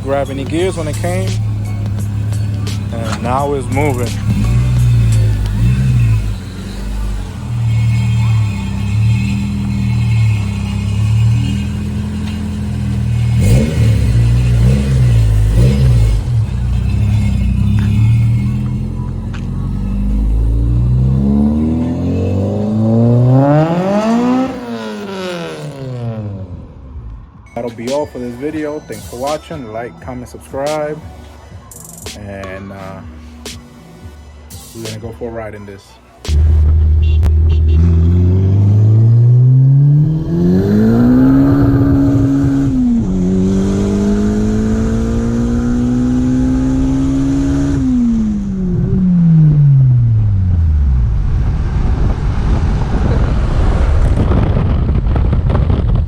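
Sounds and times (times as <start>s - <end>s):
car accelerating past: 0.2s - 27.1s, 36.3s - 55.8s.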